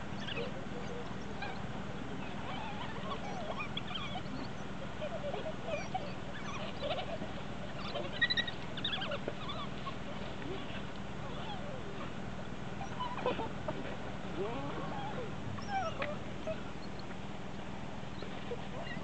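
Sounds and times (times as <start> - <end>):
wild dogs twittering: 0.1 - 12.2, 12.8 - 17.1, 18.1 - 19.0.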